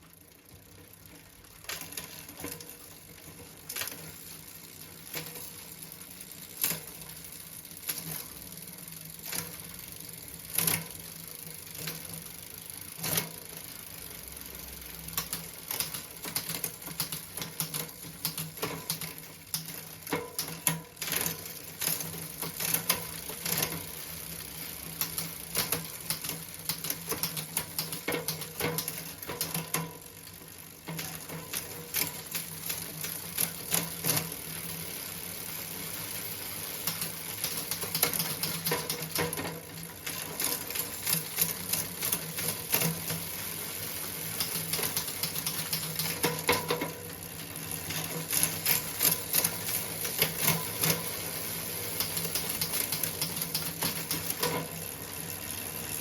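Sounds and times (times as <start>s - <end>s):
bicycle chain running over cogs: 0.0s - 56.0s.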